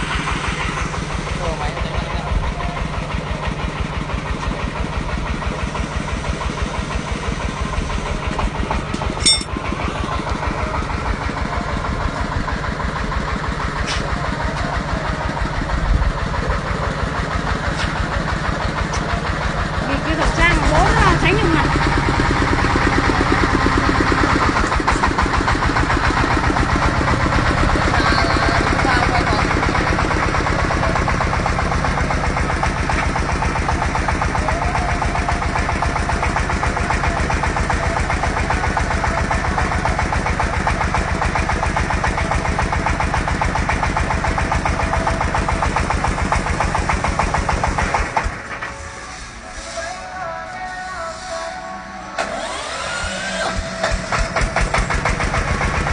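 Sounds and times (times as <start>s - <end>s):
drilling machine engine running: 0.0s - 50.2s, 51.0s - 55.9s.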